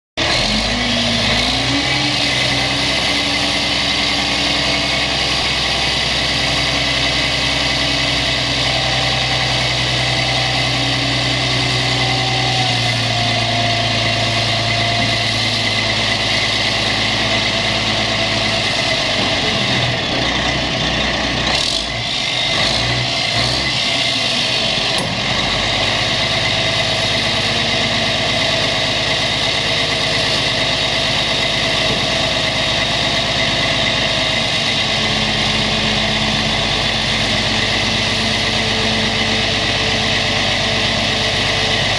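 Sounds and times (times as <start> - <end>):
diesel truck engine running: 0.2 - 41.9.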